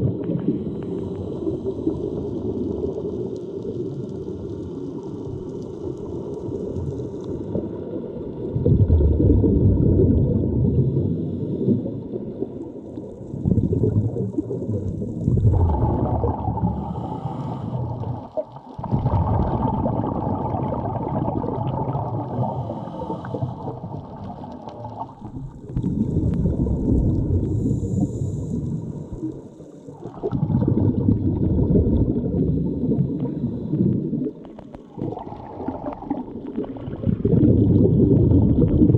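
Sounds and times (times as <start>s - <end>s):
dull underwater swimming noise: 0.0s - 38.9s.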